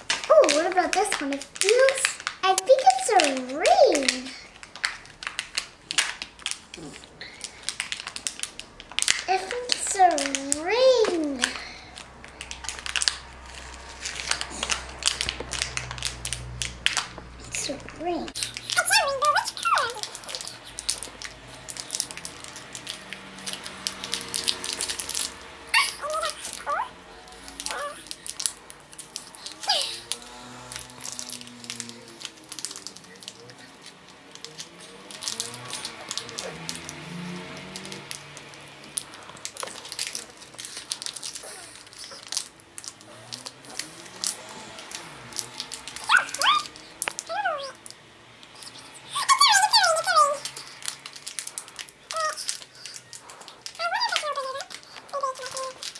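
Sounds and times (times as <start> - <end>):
plastic packet crinkling: 0.0 - 55.9.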